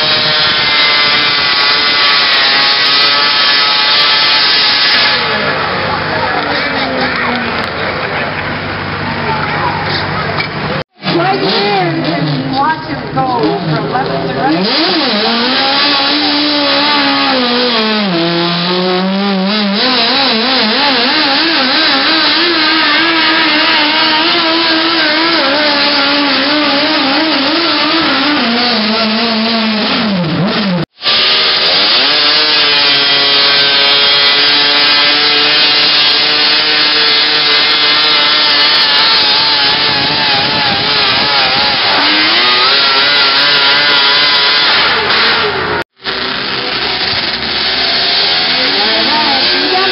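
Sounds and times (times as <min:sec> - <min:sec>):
tractor engine under load: 0:00.0 - 0:49.9.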